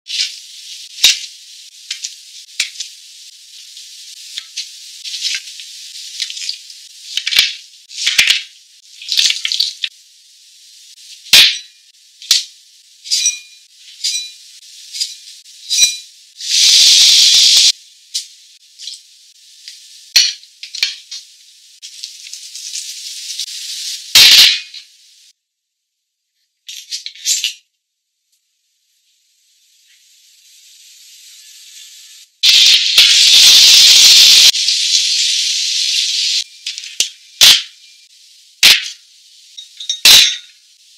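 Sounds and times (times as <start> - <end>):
light hiss: 0.1 - 25.4, 28.3 - 40.9
meat sizzling on grill: 0.1 - 25.4, 29.3 - 40.9.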